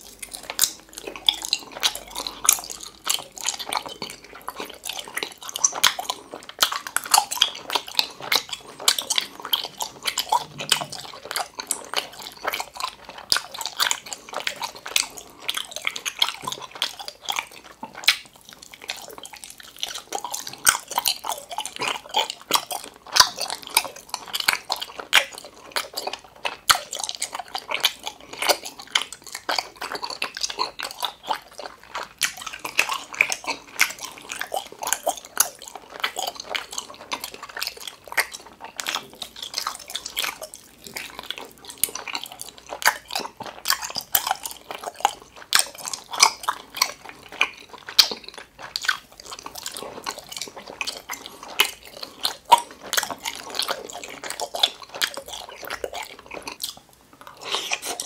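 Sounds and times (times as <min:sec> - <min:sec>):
chewing gummy candy: 0:00.0 - 0:58.0.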